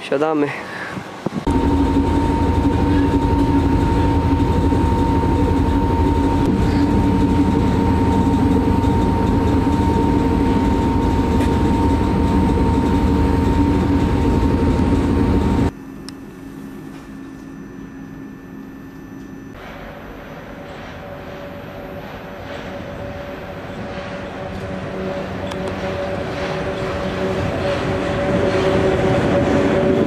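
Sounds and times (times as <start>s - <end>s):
train running rumble: 1.0s - 15.7s, 19.5s - 30.0s
steady whine: 1.0s - 30.0s.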